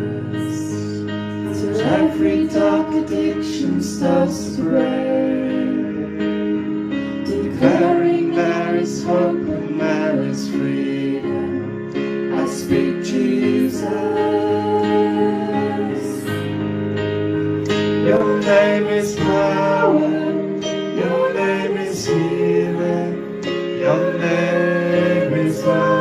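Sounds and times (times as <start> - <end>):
electronic keyboard chords: 0.0 - 26.0.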